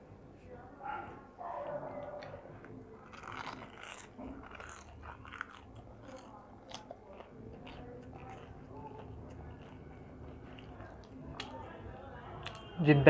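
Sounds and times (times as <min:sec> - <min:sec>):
biting and chewing crispy food: 0:01.7 - 0:12.8.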